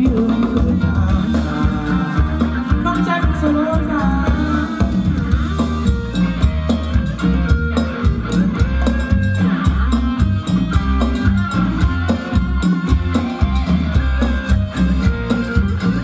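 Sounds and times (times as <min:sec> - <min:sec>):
bass line: 0:00.0 - 0:16.0
live band dance music: 0:00.0 - 0:16.0
steady drum beat: 0:00.0 - 0:16.0.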